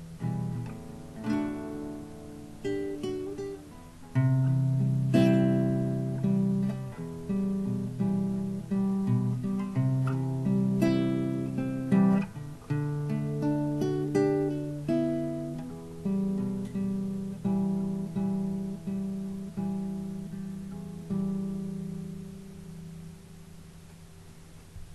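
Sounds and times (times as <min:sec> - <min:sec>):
fingerpicked classical guitar: 0:00.0 - 0:24.9.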